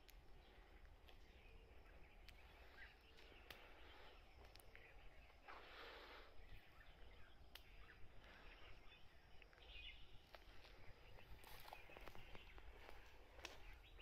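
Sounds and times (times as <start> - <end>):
bird chirps: 0.0 - 14.0.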